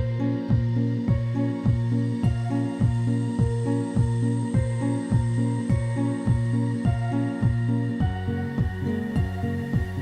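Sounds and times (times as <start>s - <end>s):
synth chords over a beat: 0.0s - 10.0s.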